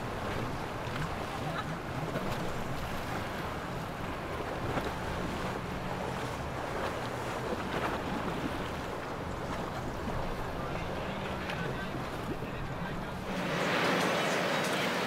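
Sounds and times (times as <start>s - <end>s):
boat engine hum: 0.0s - 15.0s
rush of boat wake: 0.0s - 15.0s.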